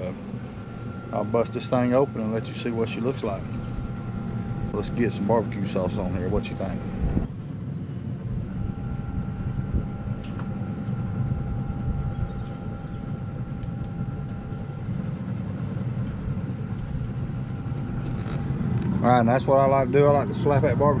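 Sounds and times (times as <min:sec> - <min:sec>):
smoker fan humming and whining: 0:00.0 - 0:21.0.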